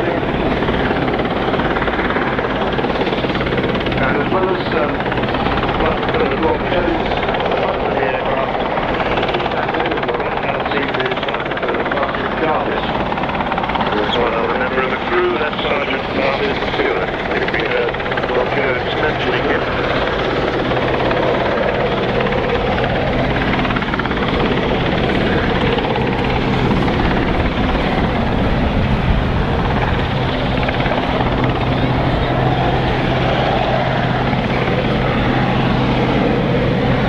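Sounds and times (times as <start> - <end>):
helicopter rotor and engine noise: 0.0 - 37.0.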